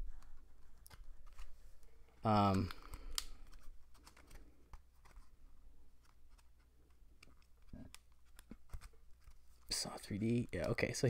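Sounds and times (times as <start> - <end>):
cardboard pages clicking: 0.1 - 1.6, 2.4 - 5.3, 6.0 - 10.8.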